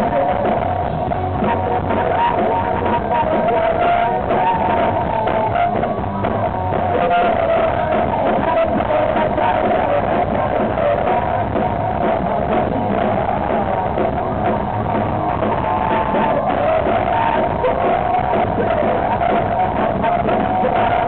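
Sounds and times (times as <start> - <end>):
live rock band playing: 0.0 - 21.0
man singing lead vocal: 0.0 - 21.0.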